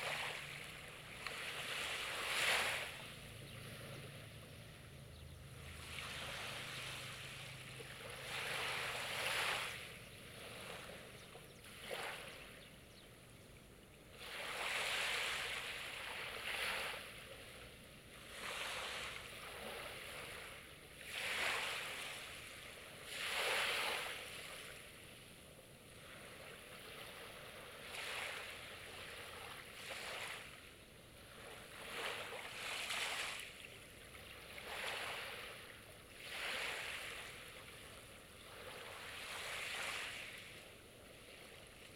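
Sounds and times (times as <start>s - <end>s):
waves breaking on shore: 0.0s - 12.6s, 14.0s - 41.9s.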